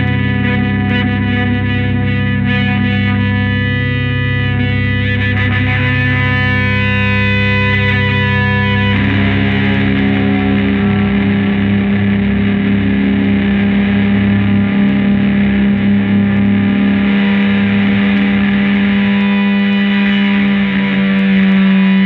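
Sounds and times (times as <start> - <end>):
distorted electric guitar drone: 0.0 - 22.0.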